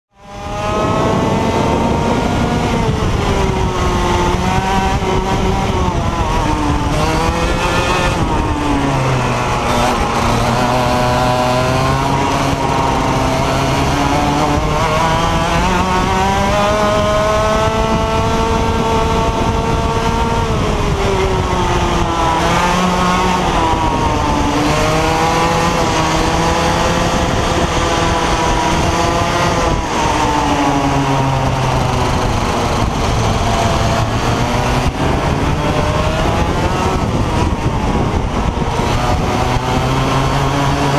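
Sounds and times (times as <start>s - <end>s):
kart engine revving: 0.1s - 40.9s.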